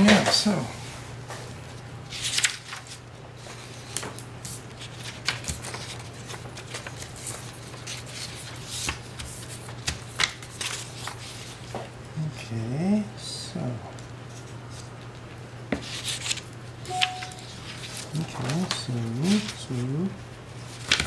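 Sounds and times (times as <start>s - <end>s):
paper rustling: 1.5s - 11.9s, 14.3s - 21.0s.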